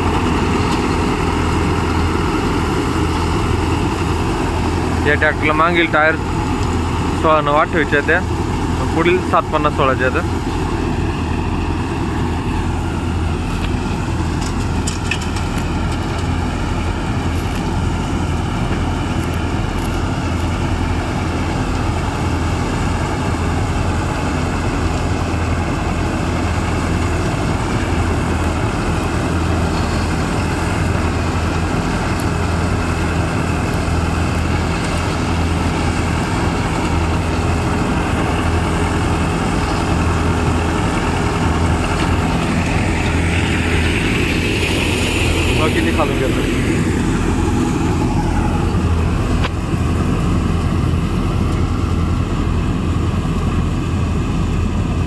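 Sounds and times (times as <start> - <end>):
combine harvester working: 0.0 - 55.0
tractor diesel engine running: 0.0 - 55.0.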